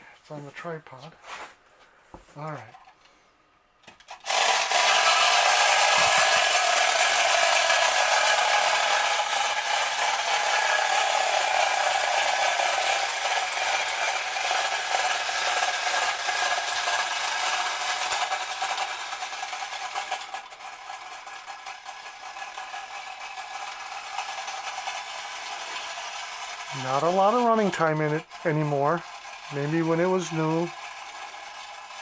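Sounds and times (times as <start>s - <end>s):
clockwork toy motor running: 3.8s - 32.0s.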